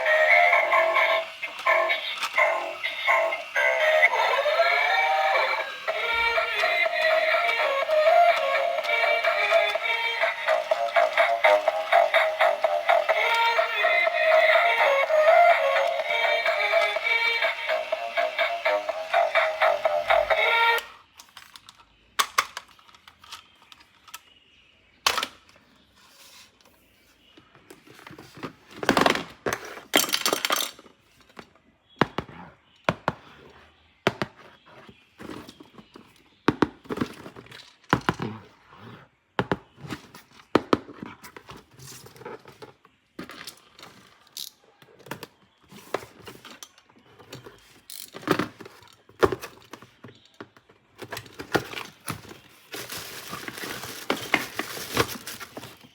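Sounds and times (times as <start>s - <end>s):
toys and packaging handled: 0.0s - 24.4s, 27.7s - 31.6s, 34.6s - 38.4s, 39.7s - 55.9s.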